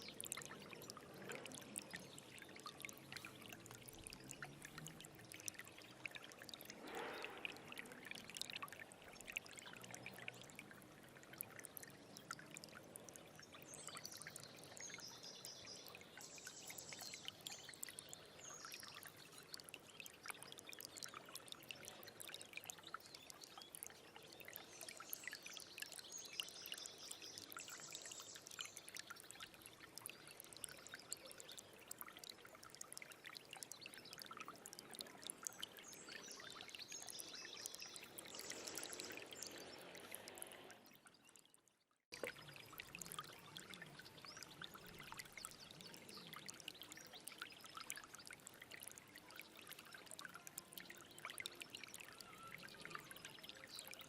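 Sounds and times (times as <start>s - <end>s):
stream water trickling over stones: 0.0s - 54.0s.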